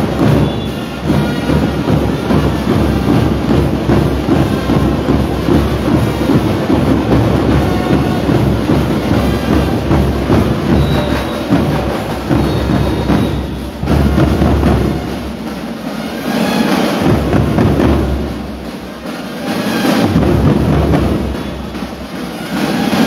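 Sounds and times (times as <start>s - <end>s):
marching drums playing: 0.0s - 23.0s.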